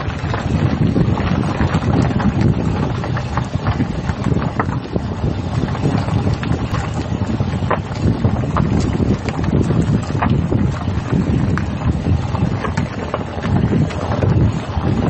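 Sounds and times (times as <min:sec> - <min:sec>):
tyres rolling on dirt road: 0:00.0 - 0:15.0.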